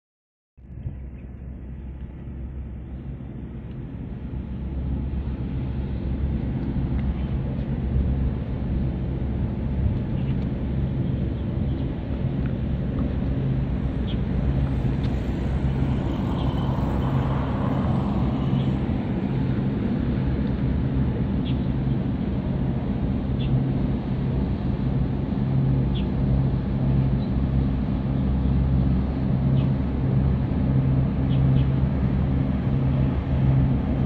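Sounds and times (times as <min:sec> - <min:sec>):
ship engine drone: 0:00.6 - 0:34.0.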